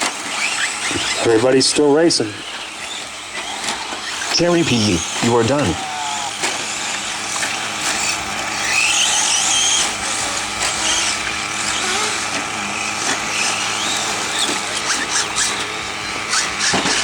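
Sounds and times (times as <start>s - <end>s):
rc truck motor whine: 0.0s - 17.0s.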